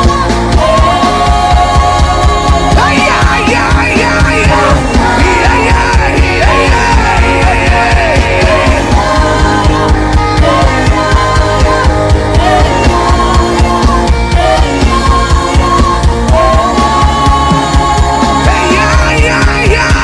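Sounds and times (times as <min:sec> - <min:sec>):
worship band music: 0:00.0 - 0:20.0.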